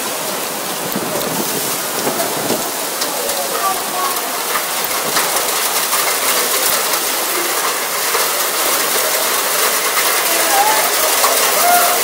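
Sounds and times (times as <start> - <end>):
heavy rain hissing: 0.0 - 12.0
raindrops ticking on surfaces: 0.0 - 12.0.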